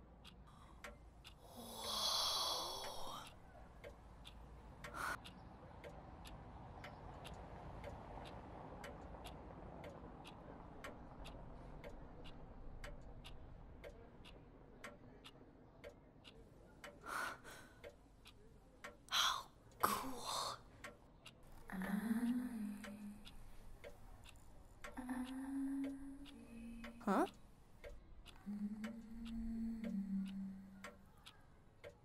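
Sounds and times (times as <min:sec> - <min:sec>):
clock ticking: 0:00.0 - 0:32.0
faint room ambience: 0:00.0 - 0:32.0.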